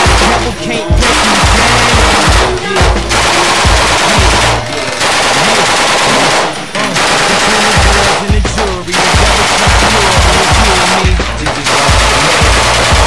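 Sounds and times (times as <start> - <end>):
faint music: 0.0 - 13.0
machine gun firing bursts: 0.0 - 13.0.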